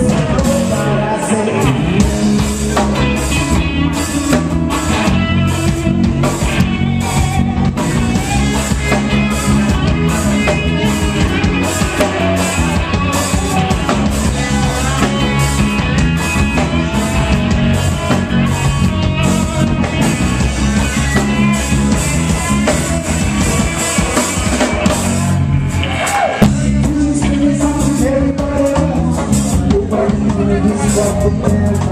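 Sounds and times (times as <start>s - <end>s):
bass: 0.0s - 31.9s
drums: 0.0s - 31.9s
guitar: 0.0s - 31.9s
person singing: 0.0s - 31.9s.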